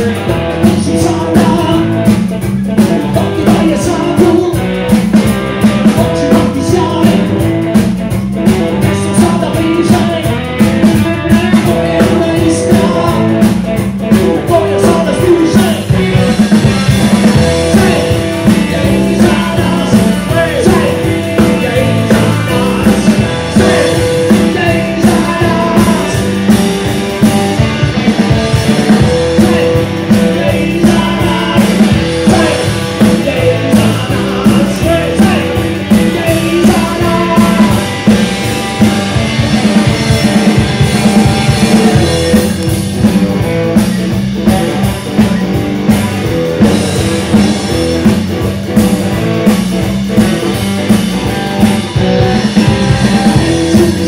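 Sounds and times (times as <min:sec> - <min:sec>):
bass guitar: 0:00.0 - 0:54.0
drum kit: 0:00.0 - 0:54.0
electric guitar: 0:00.0 - 0:54.0.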